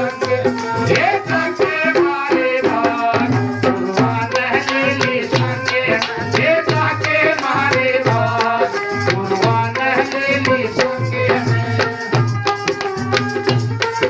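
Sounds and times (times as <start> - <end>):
rattling percussion: 0.0 - 14.0
tabla drum beat: 0.0 - 14.0.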